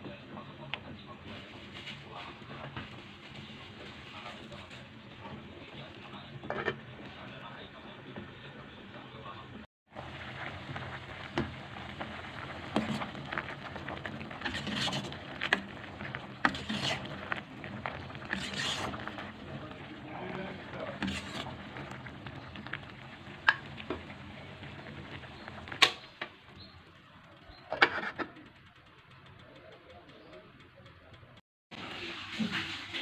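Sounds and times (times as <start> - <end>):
water boiling with pops: 0.1 - 33.0.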